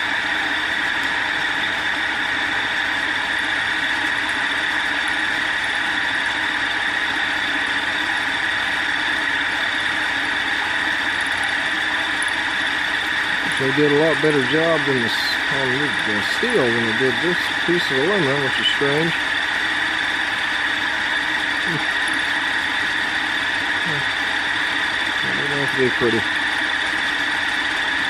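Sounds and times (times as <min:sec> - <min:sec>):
milling machine cutting metal: 0:00.0 - 0:28.0.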